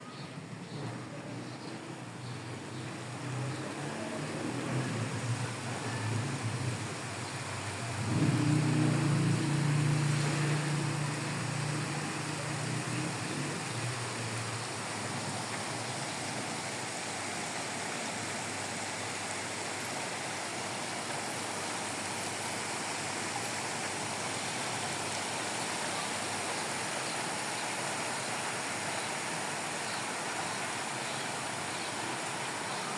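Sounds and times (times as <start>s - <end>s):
steady rain falling: 0.2s - 32.9s.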